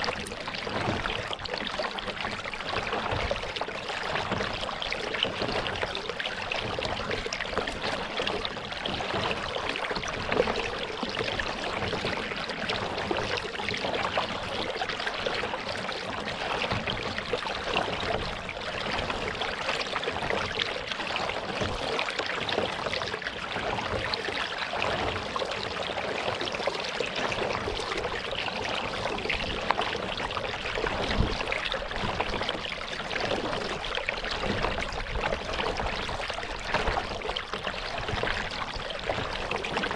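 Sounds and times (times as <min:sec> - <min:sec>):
water splashing around kayak: 0:00.0 - 0:39.9.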